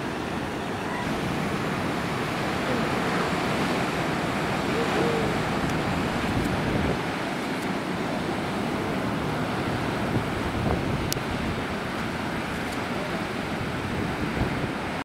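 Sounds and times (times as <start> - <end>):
ocean surf breaking: 0.0 - 15.0
wind across microphone: 0.0 - 15.0.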